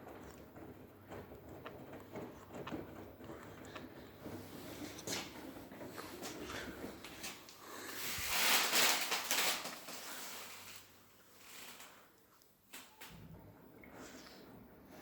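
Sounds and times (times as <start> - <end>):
laundry sloshing in washing machine: 0.0 - 12.1.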